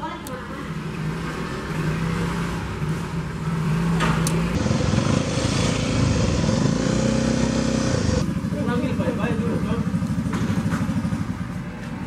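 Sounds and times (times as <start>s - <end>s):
motorbike engines running: 0.7s - 12.0s.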